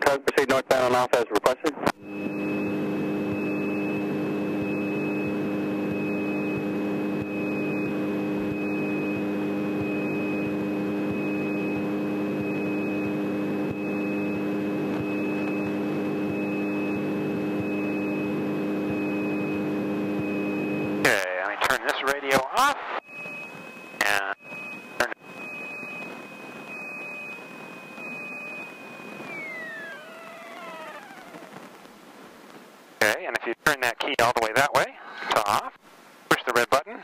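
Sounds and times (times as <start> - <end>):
thin high whine: 2.0 - 34.0.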